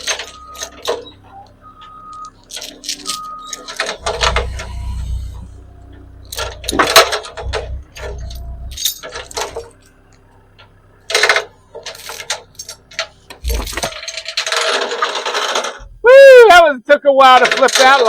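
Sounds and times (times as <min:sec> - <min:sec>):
metallic clanks and knocks: 0:00.0 - 0:16.0, 0:17.3 - 0:18.0
low hum: 0:00.0 - 0:16.2.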